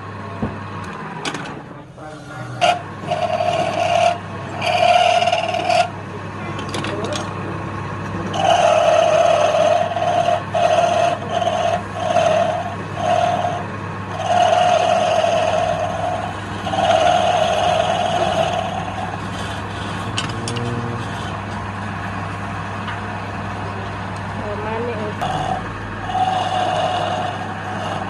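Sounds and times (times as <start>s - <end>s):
lathe motor hum: 0.0s - 28.0s
tool cutting spinning wood ringing: 2.2s - 7.4s, 8.2s - 23.7s, 25.1s - 28.0s.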